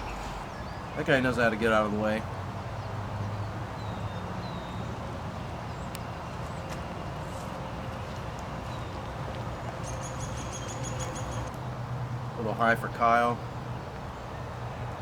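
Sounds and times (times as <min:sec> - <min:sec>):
outdoor ambient rumble: 0:00.0 - 0:15.0.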